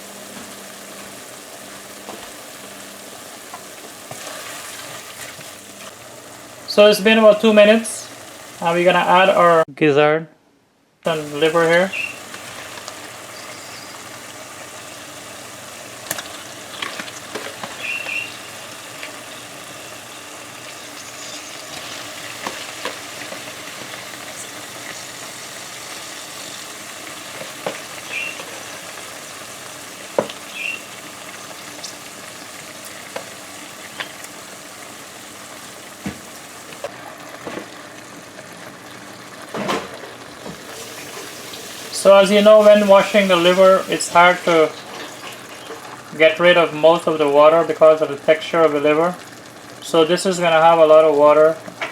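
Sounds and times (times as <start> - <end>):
meat sizzling in hot oil: 0.0 - 9.6, 11.1 - 51.9.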